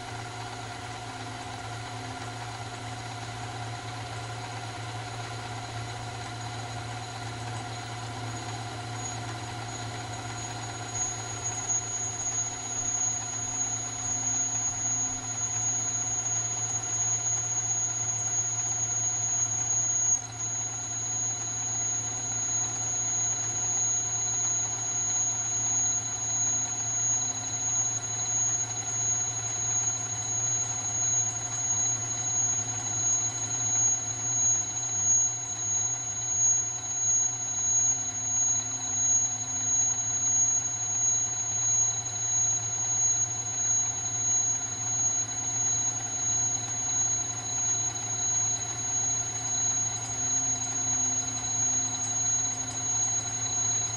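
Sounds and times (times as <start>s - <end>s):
low machine hum: 0.0s - 53.9s
mill spindle high-pitched whine: 0.0s - 53.9s.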